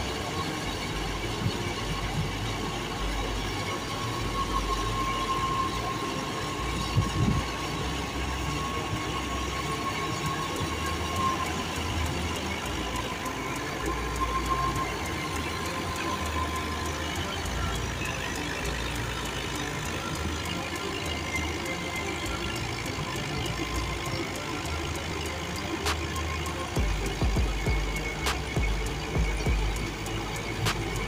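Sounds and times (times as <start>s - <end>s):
thin steady whine: 0.0s - 31.0s
thresher drum churning straw: 0.0s - 31.0s
tractor diesel engine running: 0.0s - 31.0s.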